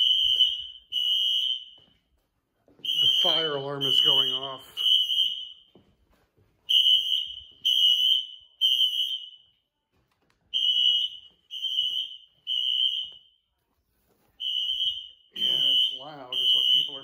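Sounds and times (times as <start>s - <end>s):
fire alarm high-pitched beeps: 0.0s - 2.1s, 2.8s - 5.8s, 6.7s - 9.7s, 10.5s - 13.5s, 14.4s - 17.0s.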